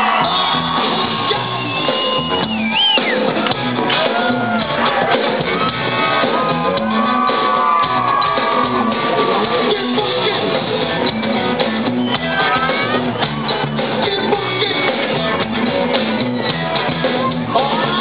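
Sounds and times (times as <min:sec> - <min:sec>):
crowd shouts: 0:00.0 - 0:18.0
live rock band: 0:00.0 - 0:18.0.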